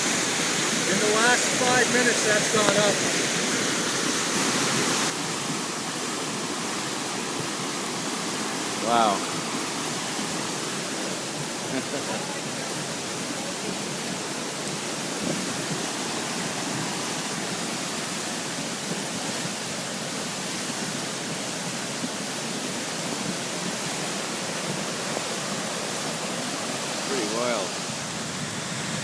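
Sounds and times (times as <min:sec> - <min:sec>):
brook water rushing: 0:00.0 - 0:29.0.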